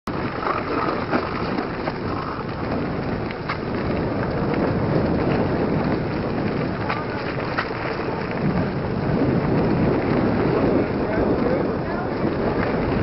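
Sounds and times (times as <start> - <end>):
bike clicks and rattles: 0.1 - 13.0
bike tyre noise on dirt: 0.1 - 13.0
wind on microphone: 0.1 - 13.0.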